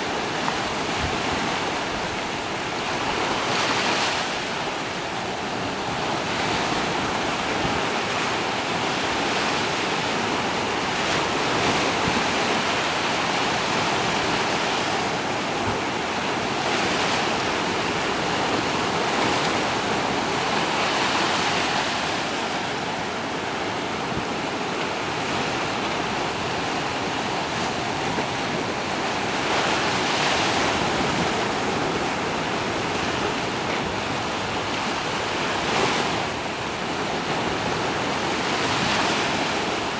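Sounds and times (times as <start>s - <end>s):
small waves washing over sand: 0.0s - 39.9s.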